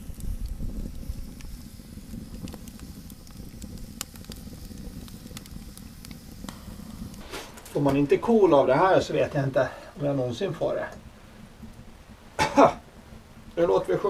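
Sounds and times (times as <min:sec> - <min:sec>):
fire flame rumbling: 0:00.0 - 0:14.0
fire ticks and crackles: 0:00.0 - 0:14.0.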